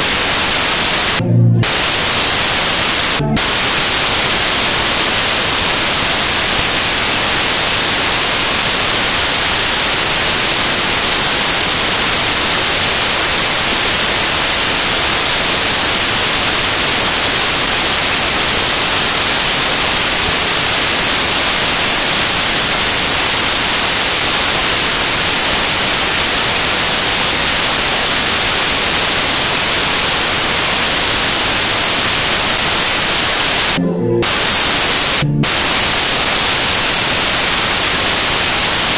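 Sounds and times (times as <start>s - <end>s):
loud static hiss: 0.0s - 38.9s.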